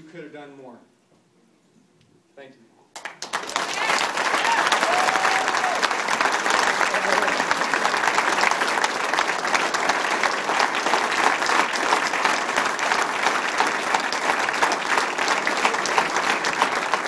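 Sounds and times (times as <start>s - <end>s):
people clapping: 2.9s - 17.0s.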